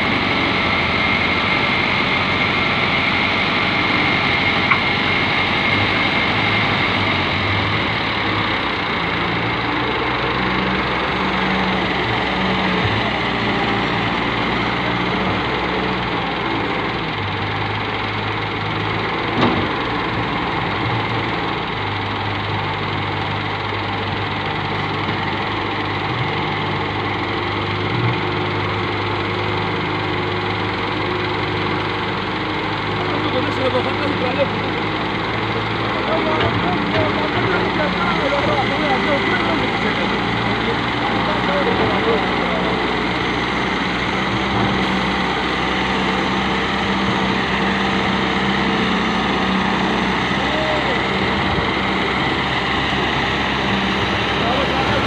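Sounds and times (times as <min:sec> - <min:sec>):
diesel engines running: 0:00.0 - 0:55.0
excavator working: 0:00.0 - 0:55.0.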